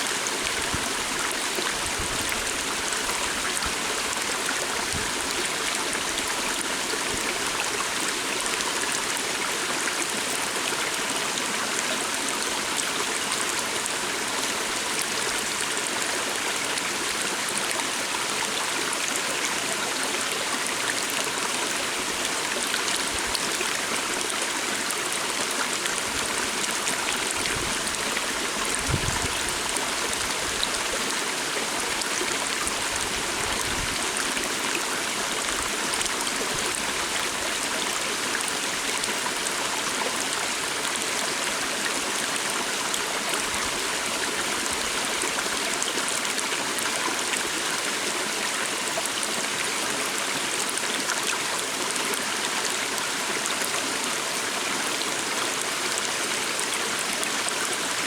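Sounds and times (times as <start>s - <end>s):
forest stream babbling: 0.0s - 58.0s.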